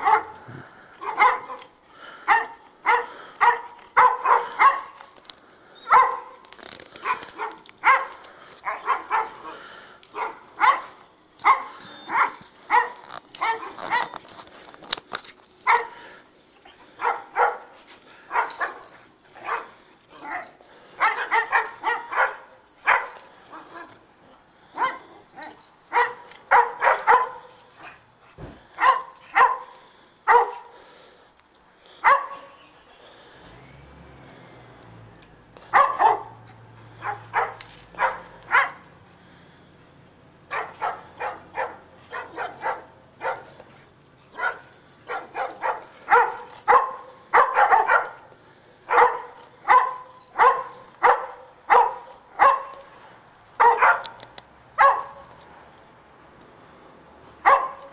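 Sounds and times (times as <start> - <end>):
dogs barking: 0.0 - 5.1, 5.8 - 14.2, 15.6 - 30.9, 32.0 - 32.6, 35.6 - 39.4, 40.5 - 55.4, 57.4 - 57.9.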